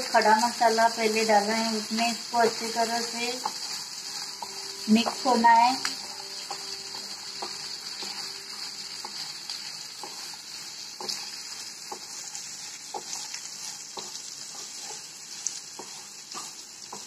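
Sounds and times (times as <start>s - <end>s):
onions sizzling in hot oil: 0.0s - 17.0s
spatula scraping and tapping pan: 1.7s - 17.0s.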